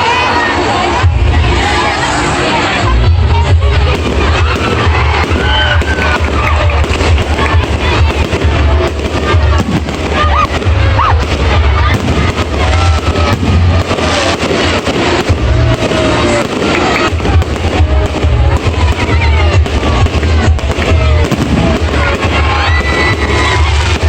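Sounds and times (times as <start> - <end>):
fireworks cracks and bangs: 0.0 - 24.0
music playing: 0.0 - 24.0
heavy low rumble: 0.9 - 24.0.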